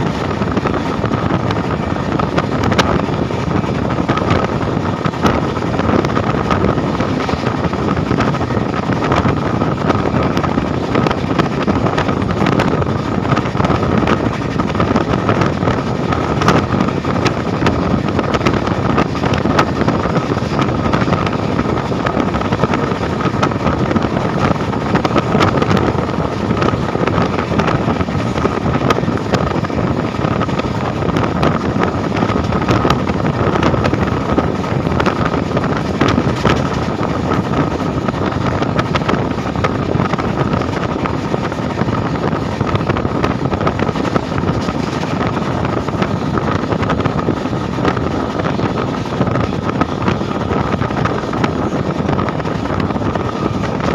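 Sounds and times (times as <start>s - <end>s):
train wheels rumbling on rails: 0.0s - 53.9s
wind buffeting microphone: 0.0s - 53.9s.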